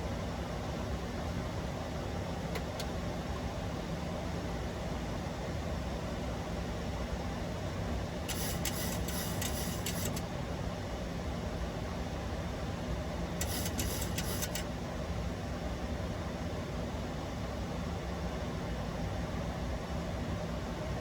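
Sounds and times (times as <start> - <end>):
airflow and engines humming: 0.0 - 21.0.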